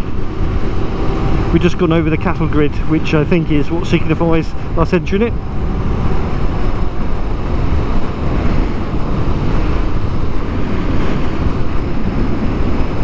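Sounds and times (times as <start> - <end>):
motorcycle road rumble: 0.0 - 13.0
wind noise over microphone: 0.0 - 13.0.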